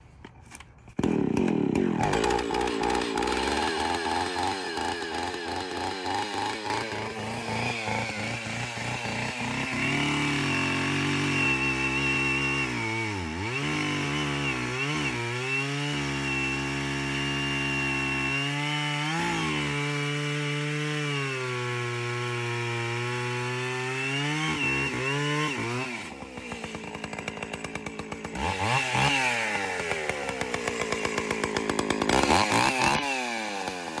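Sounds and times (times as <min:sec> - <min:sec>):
chainsaw running under load: 0:00.9 - 0:34.0.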